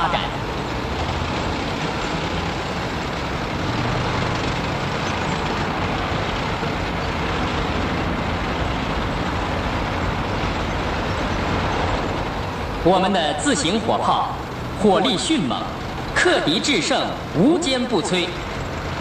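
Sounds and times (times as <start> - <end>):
heavy vehicles driving past: 0.0 - 19.0.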